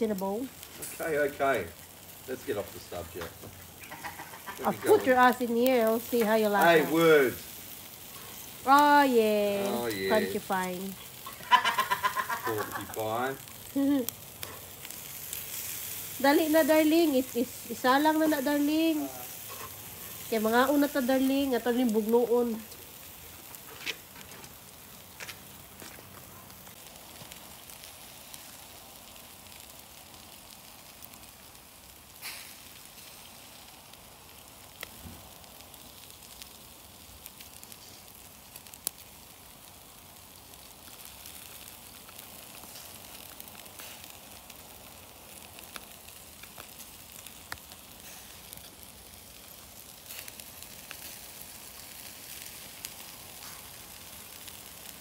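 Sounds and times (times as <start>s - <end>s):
meat sizzling over charcoal: 0.0s - 55.0s
sharp crackles: 0.0s - 55.0s.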